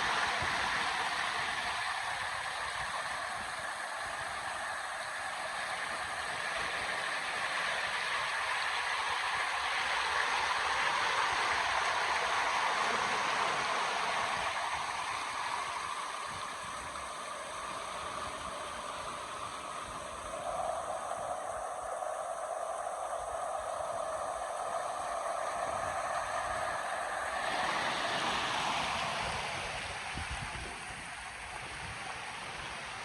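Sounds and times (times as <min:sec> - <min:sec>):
river water running: 0:00.0 - 0:33.0.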